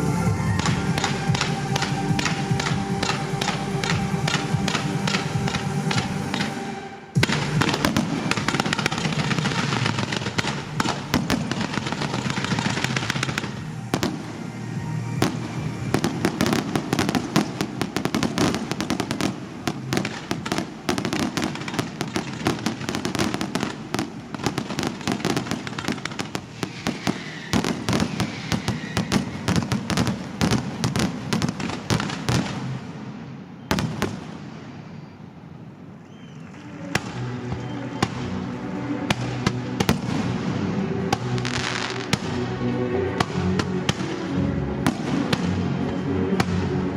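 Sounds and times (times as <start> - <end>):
music playing: 0.0 - 33.2, 36.5 - 46.9
fireworks crackling and banging: 0.0 - 46.9.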